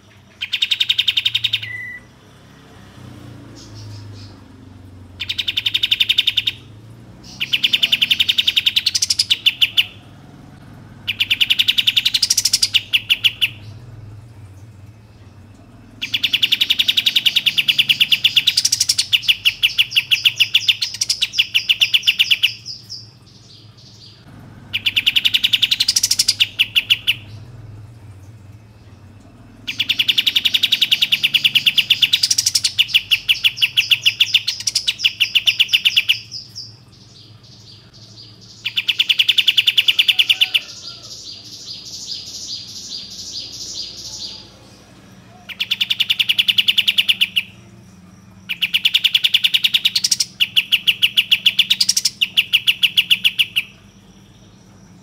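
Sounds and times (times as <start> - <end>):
bird singing rapid chattering notes: 0.0 - 55.0.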